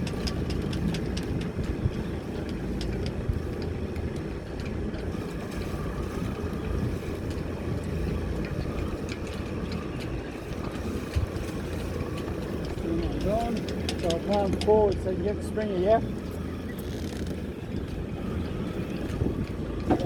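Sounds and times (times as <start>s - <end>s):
boat engine running: 0.0s - 20.0s
wind noise on microphone: 0.0s - 20.0s.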